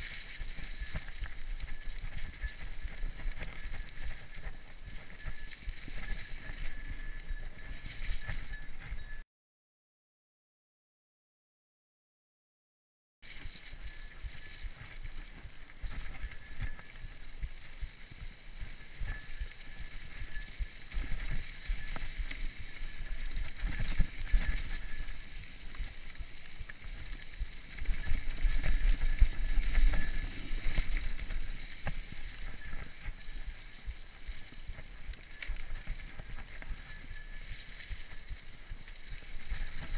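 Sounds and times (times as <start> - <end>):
bike rattling over bumps: 0.0 - 9.2, 13.2 - 39.9
bike tyres rolling over leaves: 0.0 - 9.2, 13.2 - 39.9
wind buffeting microphone: 0.0 - 9.2, 13.8 - 39.9.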